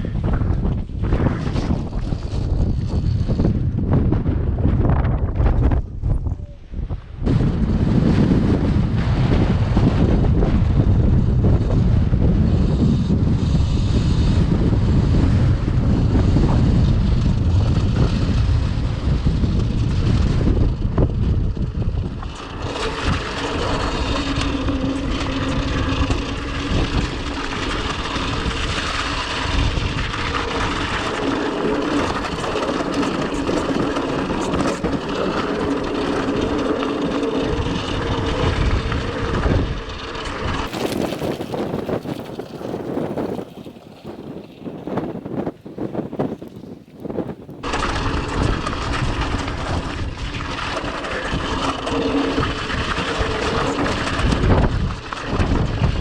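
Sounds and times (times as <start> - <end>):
wind buffeting microphone: 0.0 - 56.0
electric dirt bike motor whine: 7.3 - 56.0.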